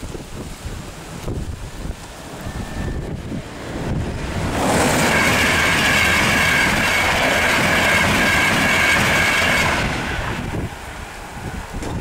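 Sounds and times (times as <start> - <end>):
electric train passing at speed: 0.6 - 12.0.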